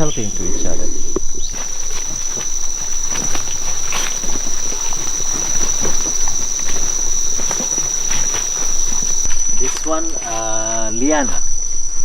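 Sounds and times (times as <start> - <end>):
rainforest insects droning: 0.0 - 12.0.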